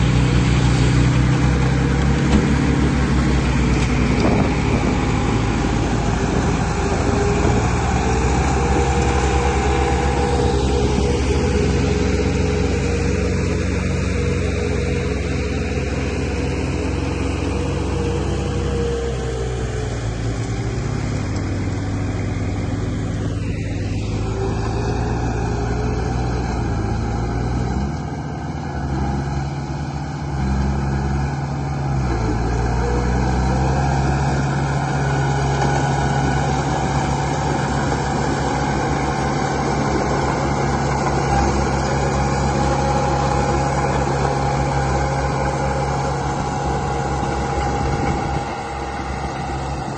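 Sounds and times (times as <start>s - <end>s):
model machinery engine drone: 0.0s - 49.9s.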